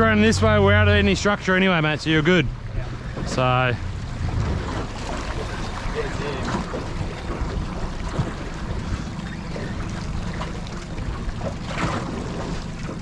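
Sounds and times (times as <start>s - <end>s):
sea noise: 0.0s - 13.0s
wind buffeting microphone: 0.0s - 13.0s.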